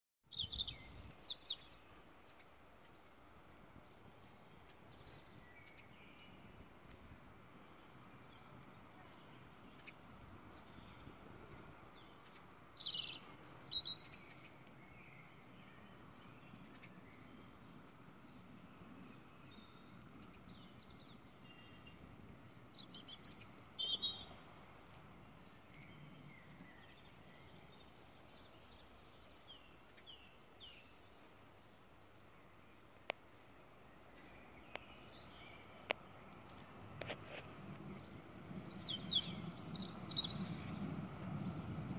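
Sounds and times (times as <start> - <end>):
faint outdoor background noise: 0.2 - 41.9
songbirds singing: 0.2 - 41.9.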